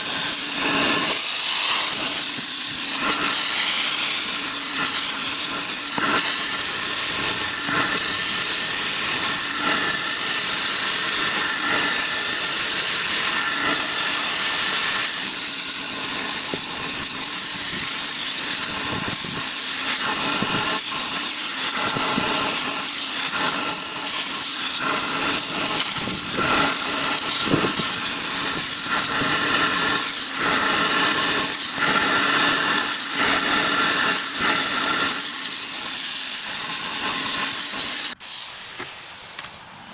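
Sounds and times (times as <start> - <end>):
hiss of spray or air: 0.0 - 39.9.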